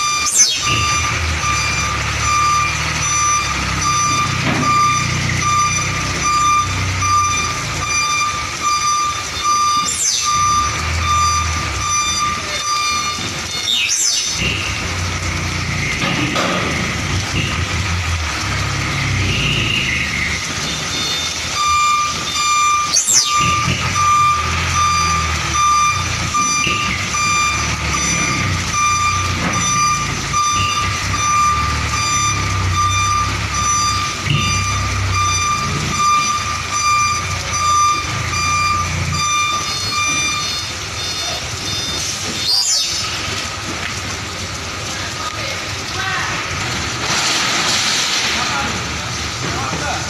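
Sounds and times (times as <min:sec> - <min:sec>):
reversing alarm beeping: 0:00.0 - 0:16.2, 0:18.6 - 0:43.4
diesel engine running: 0:00.0 - 0:50.0.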